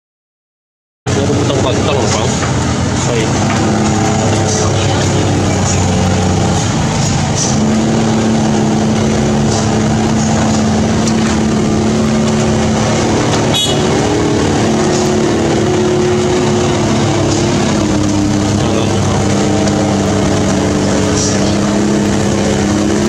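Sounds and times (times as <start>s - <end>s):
diesel trucks passing: 1.1s - 23.0s
tyre and road noise: 1.1s - 23.0s.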